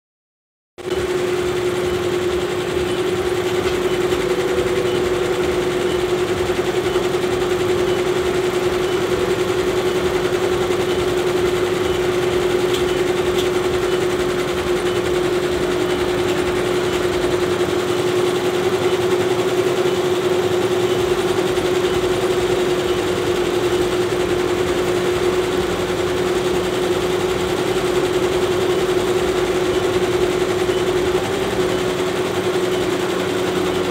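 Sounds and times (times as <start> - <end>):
embroidery machines clattering: 0.8 - 33.9.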